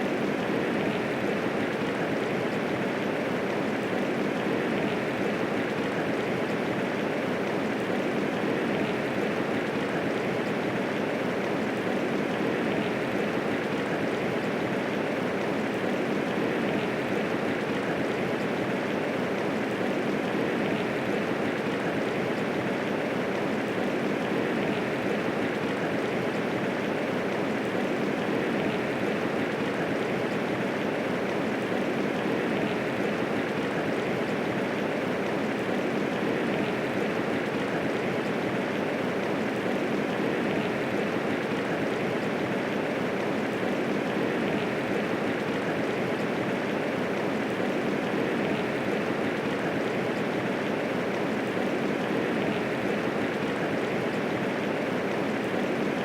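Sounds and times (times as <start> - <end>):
steady rainfall patter: 0.0 - 56.0.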